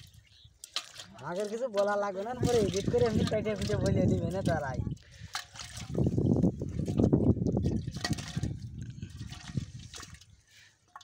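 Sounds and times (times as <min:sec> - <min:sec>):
wet rustling of weeds and mud: 0:00.0 - 0:11.0.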